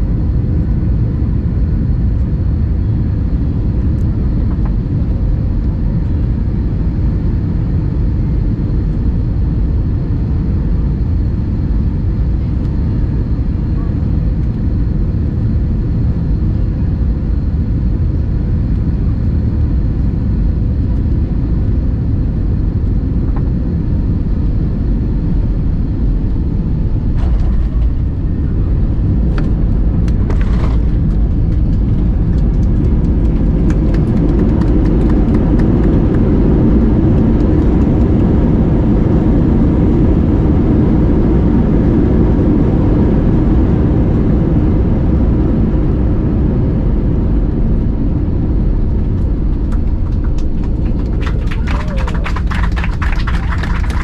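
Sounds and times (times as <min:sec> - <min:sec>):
jet engine and airflow rumble: 0:00.0 - 0:54.0.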